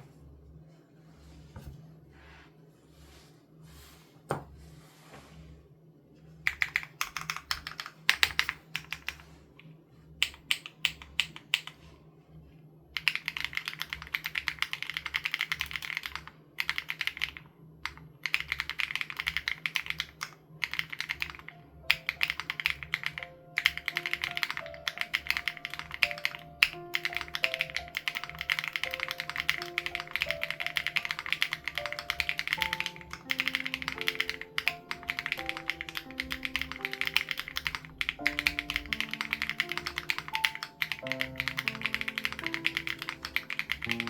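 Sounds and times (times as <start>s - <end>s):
soft background music: 6.2s - 44.0s
mechanical keyboard typing: 6.5s - 9.3s, 10.2s - 11.8s, 13.0s - 44.0s.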